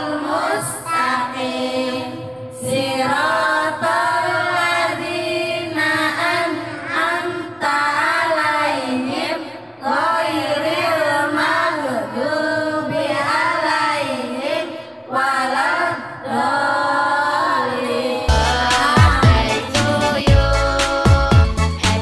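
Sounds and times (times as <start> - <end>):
voices singing: 0.0 - 22.0.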